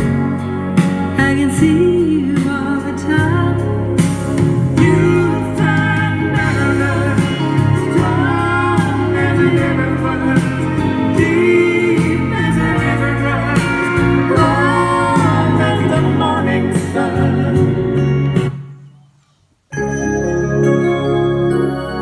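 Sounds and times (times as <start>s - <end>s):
song played through speakers: 0.0s - 19.0s, 19.7s - 22.0s.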